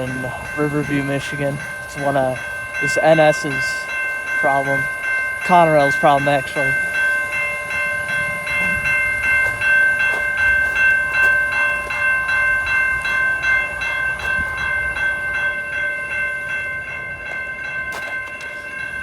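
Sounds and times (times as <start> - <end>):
railroad crossing bell ringing: 0.0 - 19.0.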